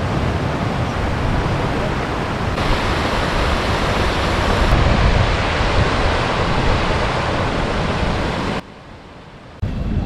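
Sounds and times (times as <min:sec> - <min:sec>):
wind buffeting microphone: 0:00.0 - 0:08.6
river rushing over rocks: 0:00.0 - 0:09.2.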